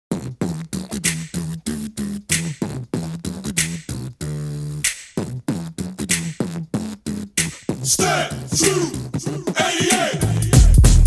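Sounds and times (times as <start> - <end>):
beatbox bass vocal notes: 0.1 - 11.0
beatbox hissing snare: 0.1 - 11.0.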